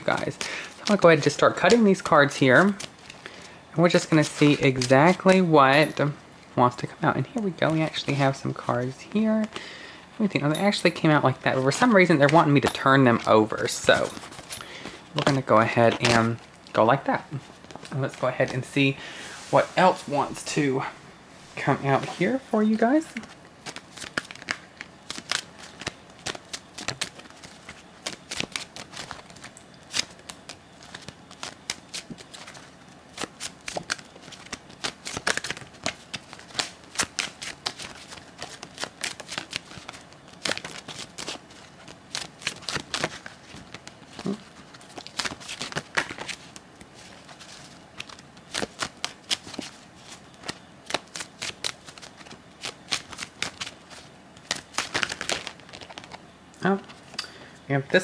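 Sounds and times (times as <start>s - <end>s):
cards being shuffled: 0.1s - 5.4s, 11.5s - 18.8s, 21.6s - 57.1s.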